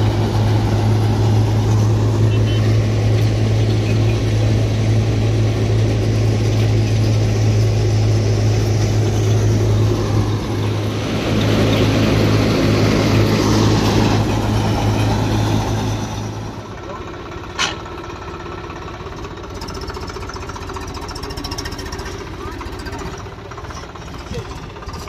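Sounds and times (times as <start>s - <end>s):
thresher and tractor droning: 0.0s - 25.0s.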